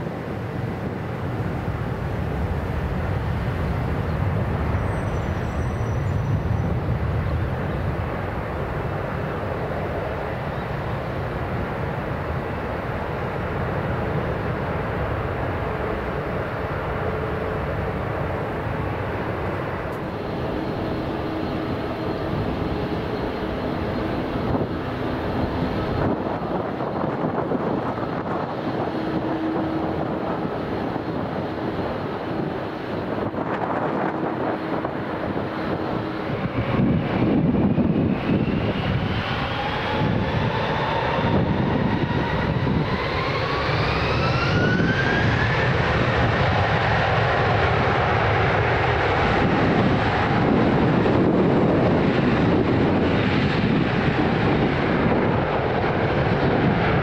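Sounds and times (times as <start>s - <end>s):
jet airliner engine rumble: 0.0s - 57.0s
jet engine whining tones: 0.0s - 57.0s.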